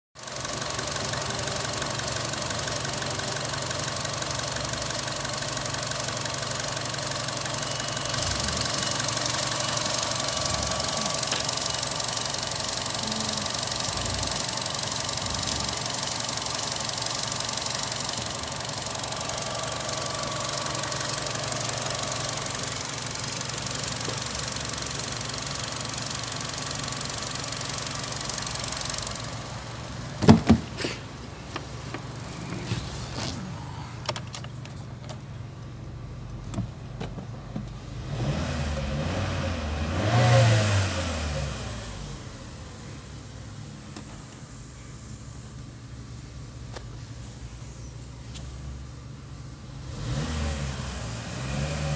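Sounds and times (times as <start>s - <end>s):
car engine idling: 0.2s - 51.9s.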